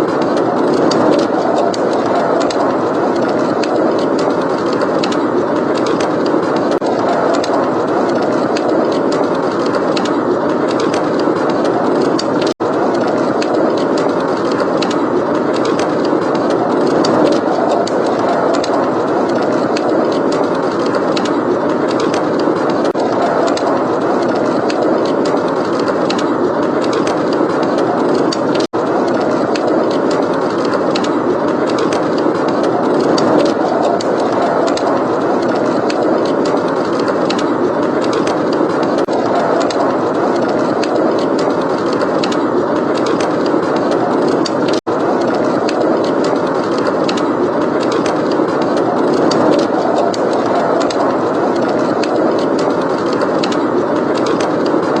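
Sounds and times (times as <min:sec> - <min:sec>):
heavy blizzard wind: 0:00.0 - 0:55.0
wood fire crackling: 0:00.0 - 0:55.0.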